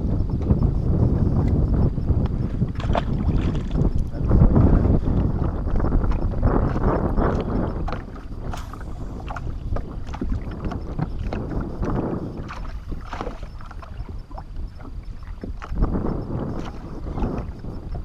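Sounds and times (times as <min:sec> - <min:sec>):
water lapping against boat hull: 0:00.0 - 0:18.0
wind buffeting microphone: 0:00.0 - 0:18.0.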